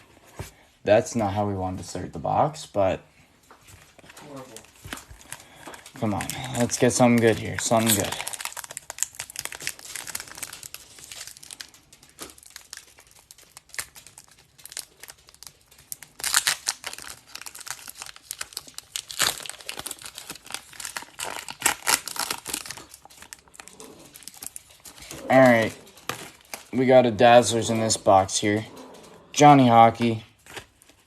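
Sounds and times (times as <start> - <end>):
card pack wrapper crinkling: 3.8 - 28.6, 29.6 - 31.0.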